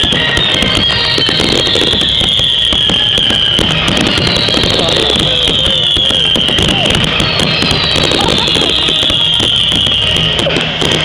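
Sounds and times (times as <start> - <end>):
fireworks crackling bursts: 0.0 - 11.0
high descending firework whistle: 0.0 - 11.0.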